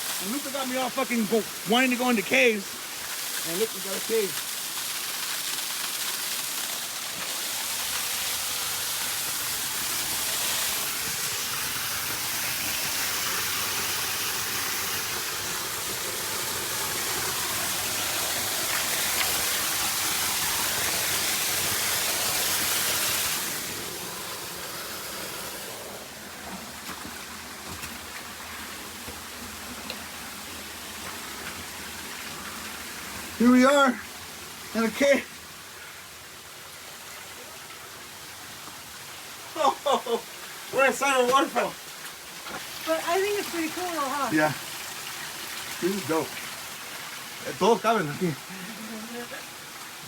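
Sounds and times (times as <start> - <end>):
waterfall rushing: 0.0 - 5.0, 5.7 - 35.5, 39.2 - 49.8.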